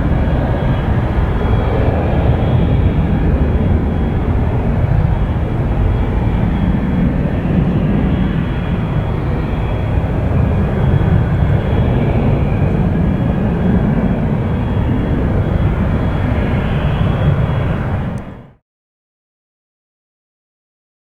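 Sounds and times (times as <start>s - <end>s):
jet engines rumbling: 0.0s - 18.6s.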